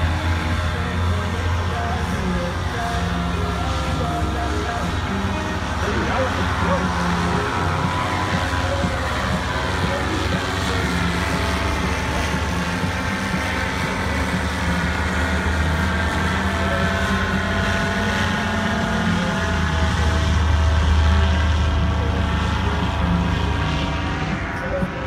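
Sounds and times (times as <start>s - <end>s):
paramotor engines droning: 0.0s - 25.0s.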